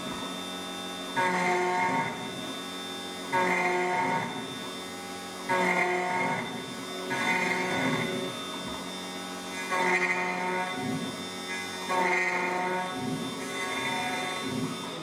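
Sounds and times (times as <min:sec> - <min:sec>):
key cutting machine cutting: 0:00.0 - 0:15.0.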